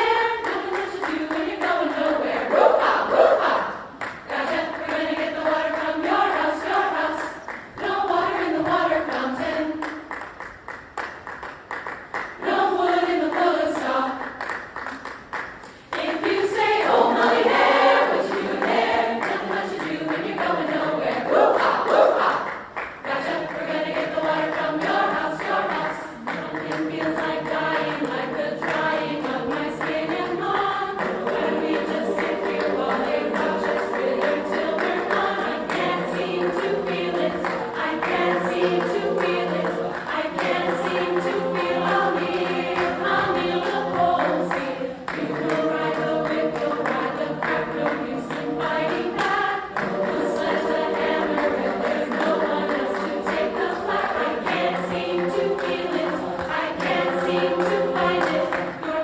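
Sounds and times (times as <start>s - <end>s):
women's chorus singing: 0.0s - 10.2s, 12.2s - 14.9s, 15.8s - 59.0s.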